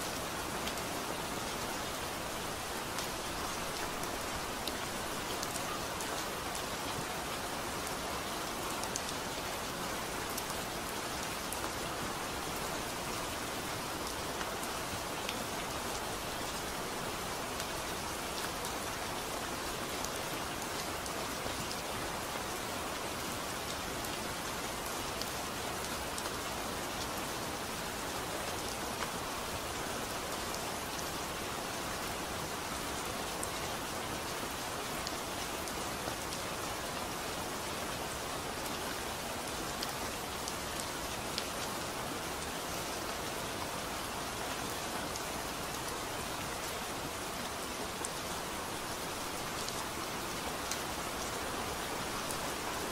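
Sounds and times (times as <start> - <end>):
sharp ticks of raindrops: 0.0 - 52.9
steady rain hiss: 0.0 - 52.9.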